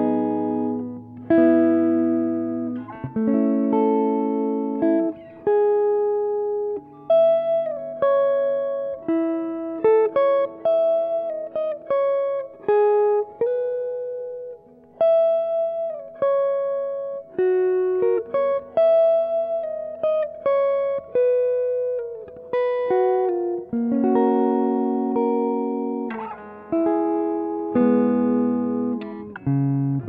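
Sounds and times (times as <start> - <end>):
plucked guitar melody: 0.0 - 30.0.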